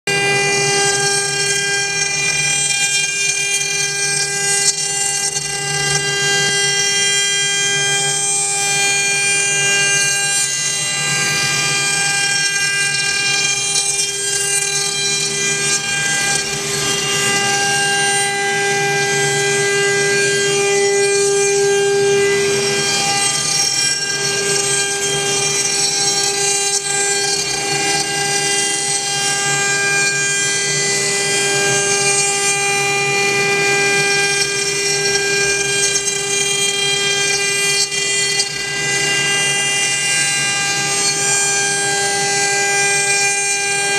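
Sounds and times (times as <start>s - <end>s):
router spindle motors whining: 0.1s - 43.9s.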